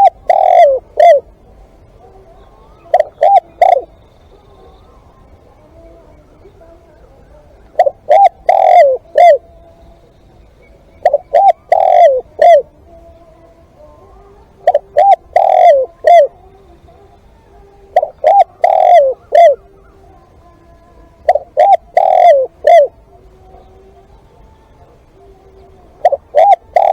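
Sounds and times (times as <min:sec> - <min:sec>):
dove cooing: 0:00.0 - 0:26.9.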